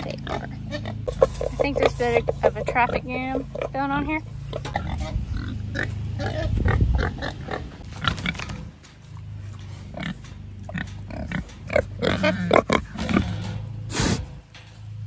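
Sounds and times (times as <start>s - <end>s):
low rumble: 0.0s - 15.0s
pigs grunting and snuffling: 0.0s - 15.0s.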